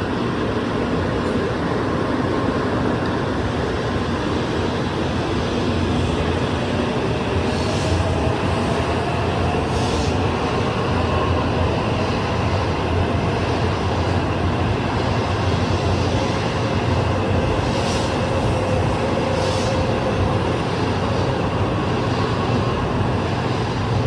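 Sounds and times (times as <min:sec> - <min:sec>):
train rumble and rushing: 0:00.0 - 0:24.0.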